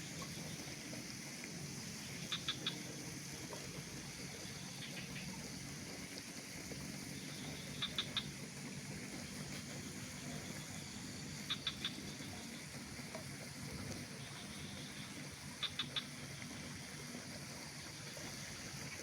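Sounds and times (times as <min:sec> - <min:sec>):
low background hum and hiss: 0:00.0 - 0:19.0.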